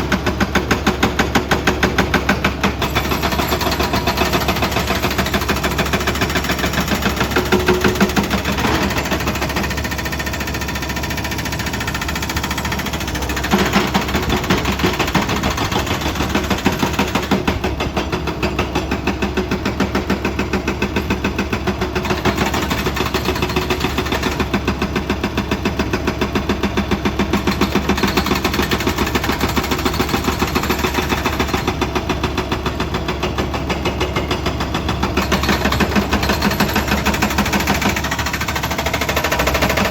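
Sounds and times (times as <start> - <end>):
excavator diesel engine clattering: 0.0 - 39.9.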